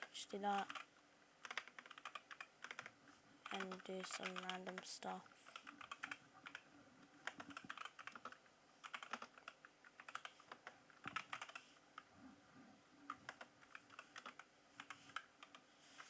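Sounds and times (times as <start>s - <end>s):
keyboard typing: 0.0s - 12.1s, 13.1s - 16.0s.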